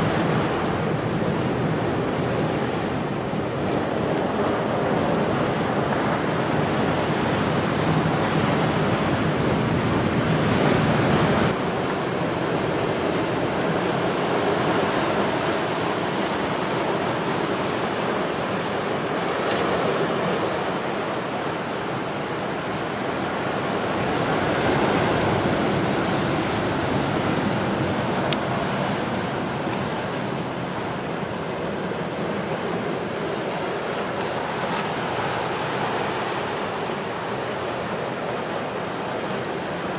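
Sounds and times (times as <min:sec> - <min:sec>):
surf breaking on rocky shore: 0:00.0 - 0:39.9.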